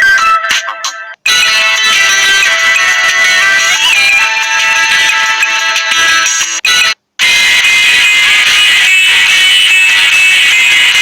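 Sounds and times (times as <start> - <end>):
electronic ringtone melody: 0.0 - 11.0.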